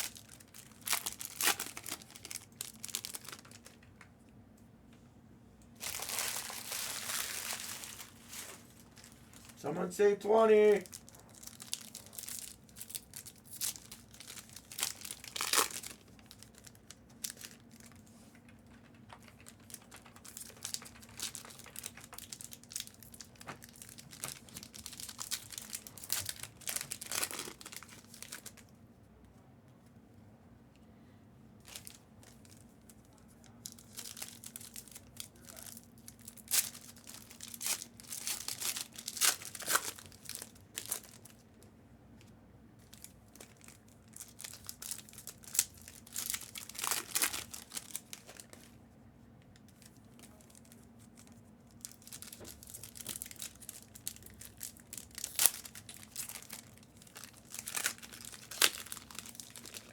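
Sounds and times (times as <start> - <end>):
card pack wrappers crinkling: 0.0 - 4.0, 5.8 - 28.7, 31.6 - 41.7, 42.8 - 48.8, 49.6 - 59.9
faint steady hum: 0.0 - 59.9.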